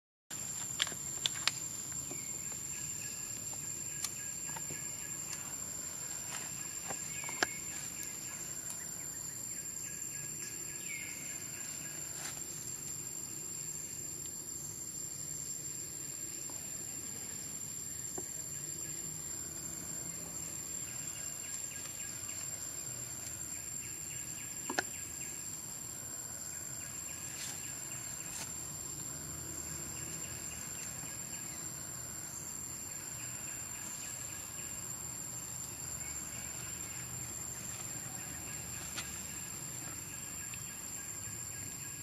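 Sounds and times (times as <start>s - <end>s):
insect drone: 0.3s - 42.0s
rapid insect chirping: 0.3s - 42.0s.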